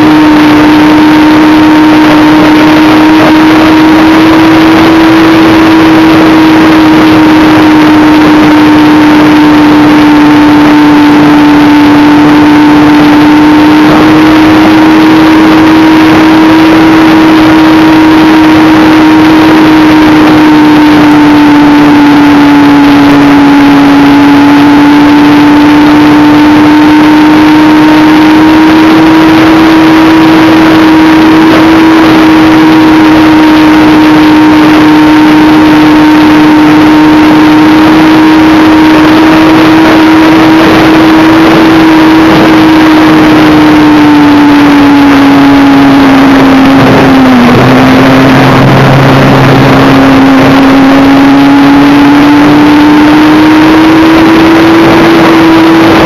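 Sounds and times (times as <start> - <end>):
model aircraft motor whine: 0.0 - 56.0.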